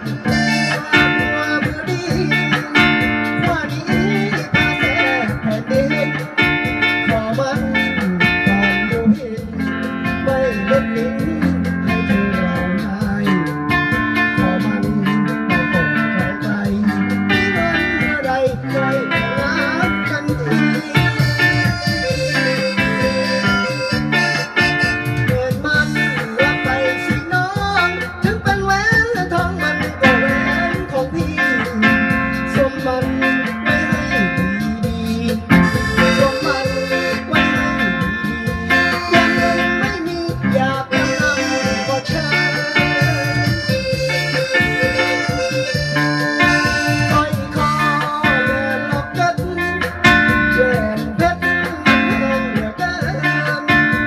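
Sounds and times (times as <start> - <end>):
electric guitar: 0.0 - 54.0
keyboard: 0.0 - 54.0
person singing into a microphone: 0.0 - 54.0.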